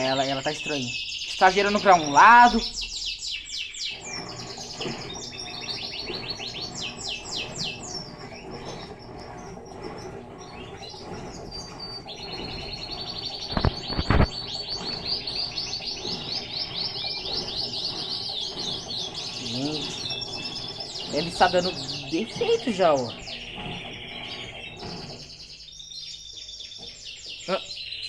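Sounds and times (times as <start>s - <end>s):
birds chirping in trills: 0.0s - 28.0s
washing machine agitating: 0.0s - 28.0s.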